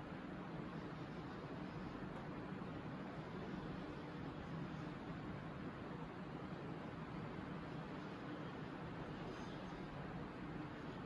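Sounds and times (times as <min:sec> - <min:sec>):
faint hum: 0:00.0 - 0:11.0
low background hiss: 0:00.0 - 0:11.0.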